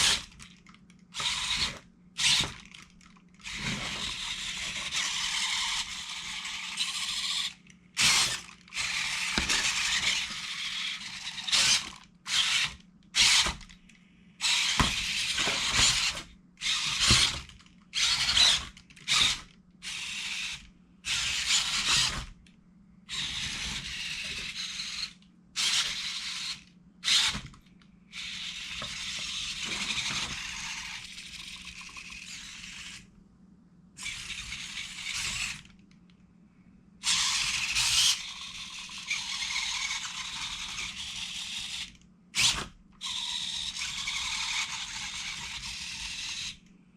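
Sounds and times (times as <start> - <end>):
servo motors whirring: 0.0 - 0.4, 1.2 - 2.8, 3.4 - 13.7, 14.4 - 22.2, 23.1 - 27.5, 28.1 - 33.0, 34.0 - 35.7, 37.0 - 46.6.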